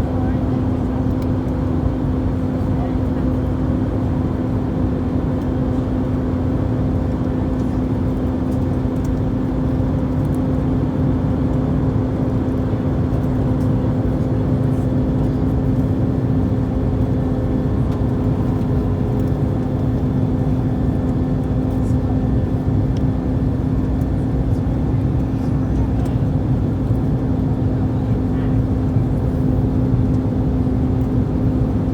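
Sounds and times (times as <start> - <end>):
airplane cabin drone: 0.0 - 31.9.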